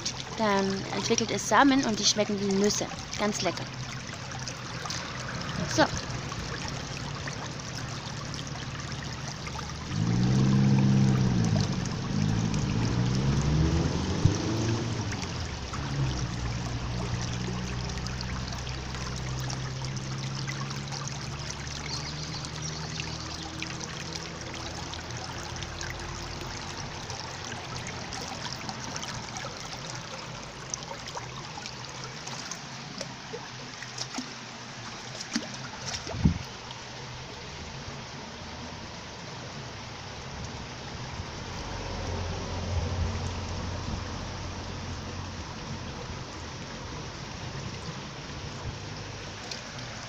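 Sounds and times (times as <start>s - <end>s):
stream trickling over rocks: 0.0s - 50.0s.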